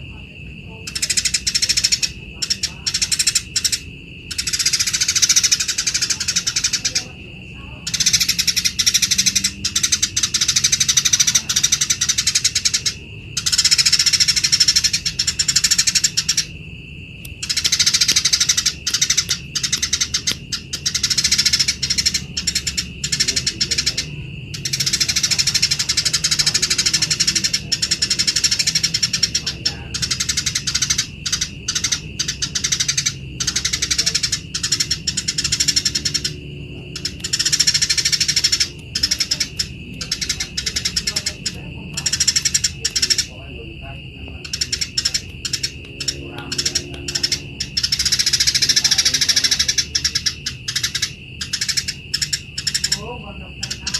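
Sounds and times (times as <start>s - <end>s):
sparrows chattering harshly: 0.0s - 53.9s.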